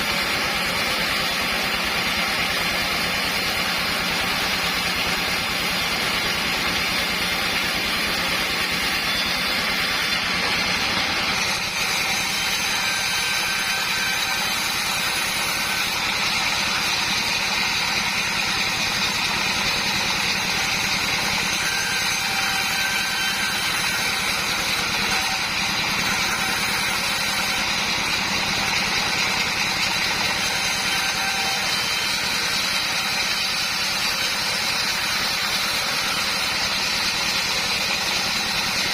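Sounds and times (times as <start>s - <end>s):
sawmill saw and motor drone: 0.0s - 38.9s.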